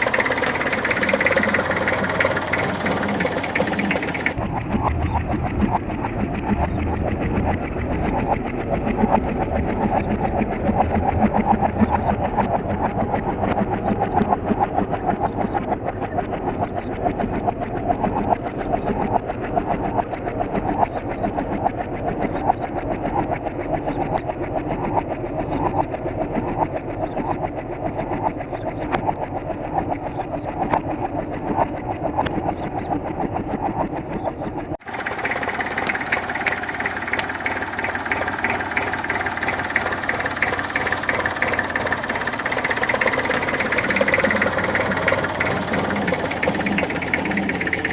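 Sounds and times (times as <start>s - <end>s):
vehicle engine pulsing: 0.0s - 47.9s.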